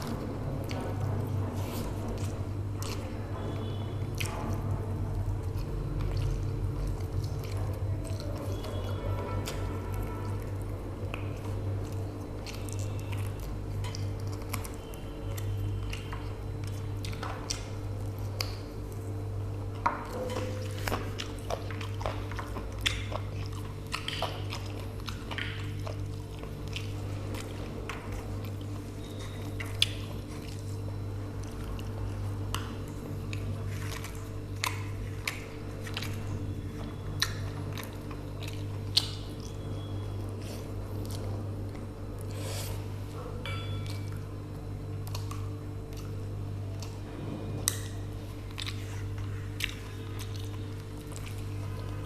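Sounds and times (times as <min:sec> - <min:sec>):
person chewing and smacking: 0:00.0 - 0:52.0
steady low hum: 0:00.0 - 0:52.0.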